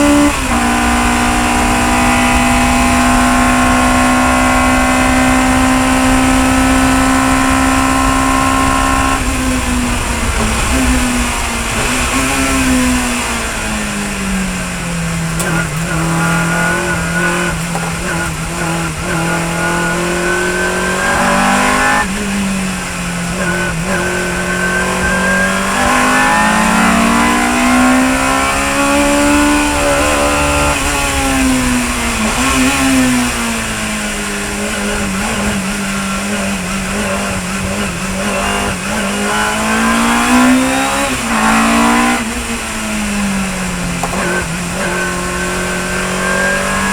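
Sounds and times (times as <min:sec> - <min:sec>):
racing car engine revving: 0:00.0 - 0:46.9.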